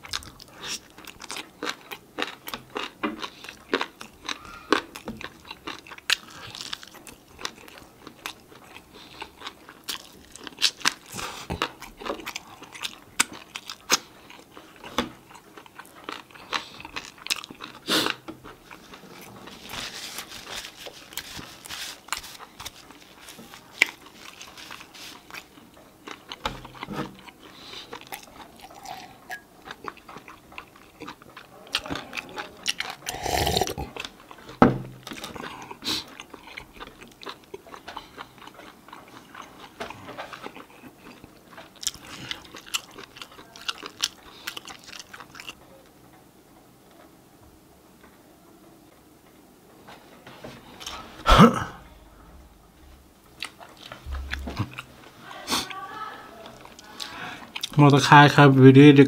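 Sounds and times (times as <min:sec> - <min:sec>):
chewing and crunching: 0:00.0 - 0:45.8, 0:53.2 - 0:58.4.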